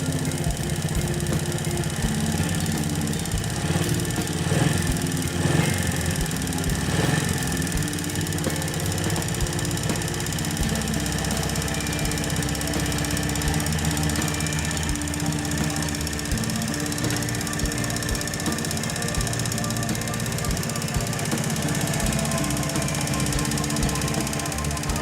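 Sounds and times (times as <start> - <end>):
engine clicking noise: 0.0 - 25.0
small motorcycle engine idling: 0.0 - 25.0.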